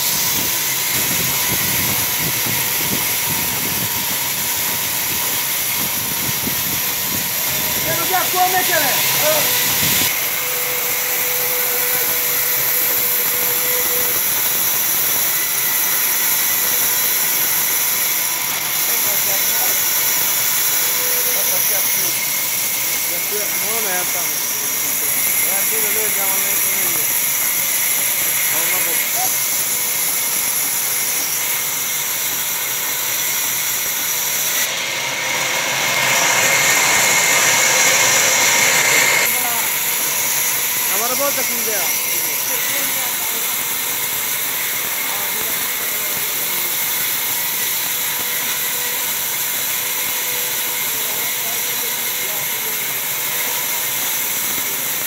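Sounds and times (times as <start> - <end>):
band saw ripping through a log: 0.0 - 55.0.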